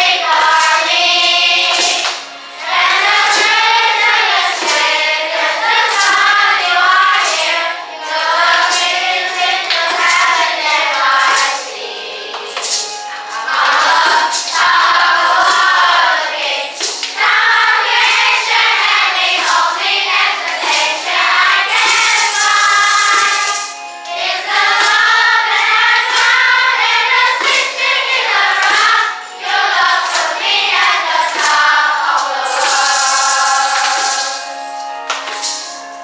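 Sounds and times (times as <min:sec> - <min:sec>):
children's choir singing: 0:00.0 - 0:36.0
musical accompaniment with beat: 0:00.0 - 0:36.0.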